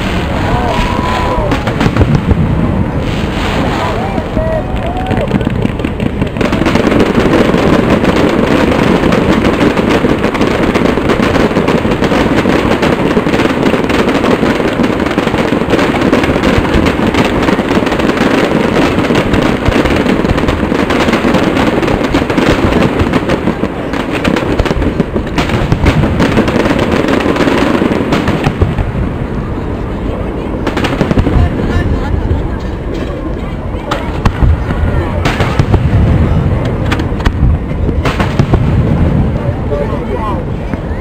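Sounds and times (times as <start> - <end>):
fireworks bursting and crackling: 0.0 - 41.0.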